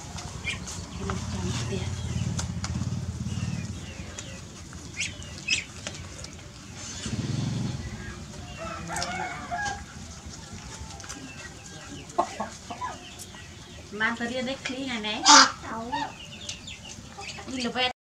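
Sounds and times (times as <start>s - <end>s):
chickens clucking: 0.0s - 17.9s.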